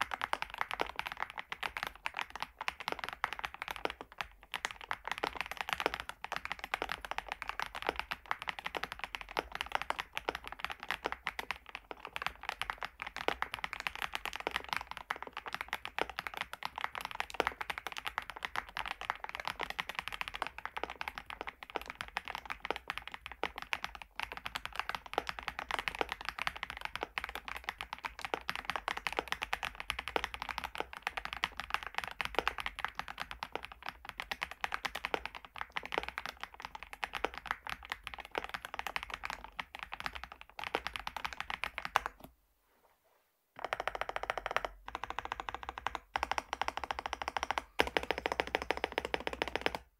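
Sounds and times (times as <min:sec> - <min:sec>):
mechanical keyboard typing: 0:00.0 - 0:42.3, 0:43.6 - 0:49.9.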